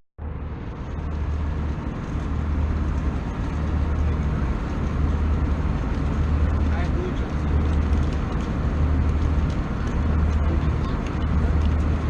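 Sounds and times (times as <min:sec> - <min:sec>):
airplane engines rumbling: 0:00.2 - 0:12.0.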